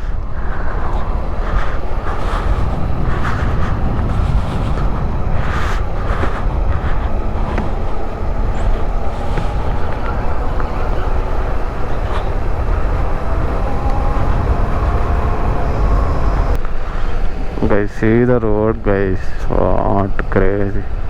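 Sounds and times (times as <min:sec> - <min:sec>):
motorcycle engine rumbling: 0:00.0 - 0:18.3
wind noise on microphone: 0:00.0 - 0:21.0.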